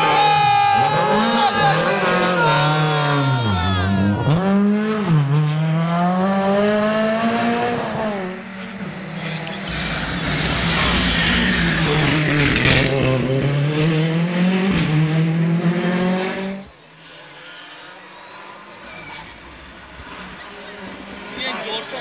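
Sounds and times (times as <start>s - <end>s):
rally car engine revving: 0.0s - 17.8s
car passing with tyre rush: 0.0s - 22.0s.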